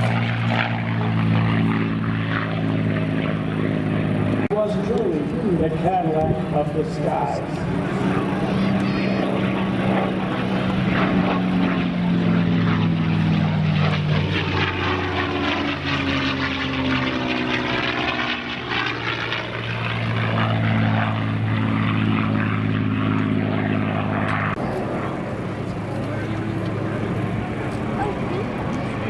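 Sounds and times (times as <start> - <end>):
propeller plane engine roaring: 0.0 - 29.0.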